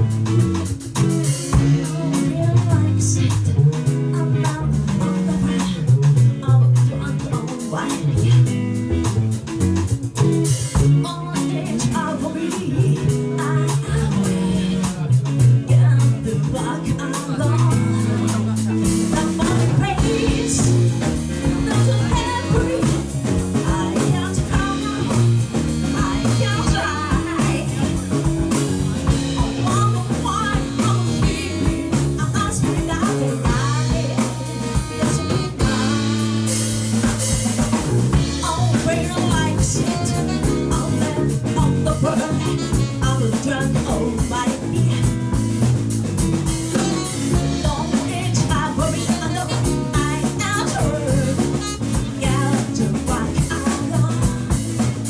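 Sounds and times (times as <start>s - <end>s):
drum kit beat: 0.0s - 55.0s
live band playing: 0.0s - 55.0s.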